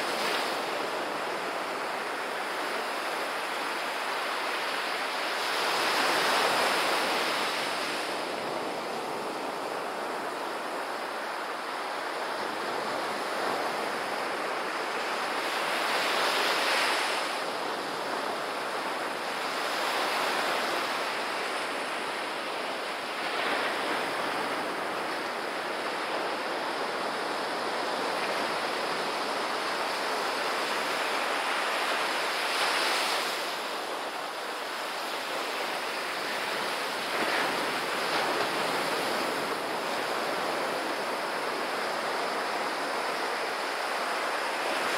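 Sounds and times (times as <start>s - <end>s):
waves washing up a beach: 0.0s - 44.9s.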